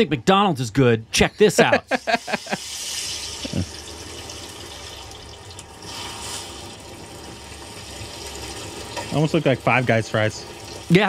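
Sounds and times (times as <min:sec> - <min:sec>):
food sizzling in hot oil: 0:01.9 - 0:11.0.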